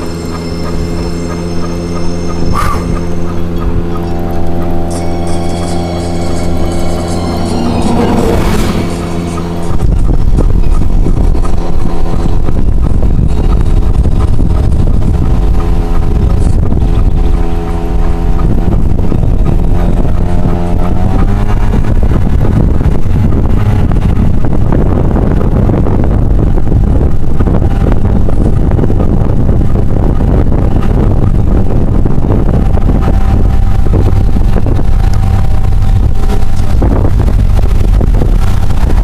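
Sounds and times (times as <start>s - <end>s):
road and wind noise: 0.0s - 39.0s
vehicle engine running: 0.0s - 39.0s.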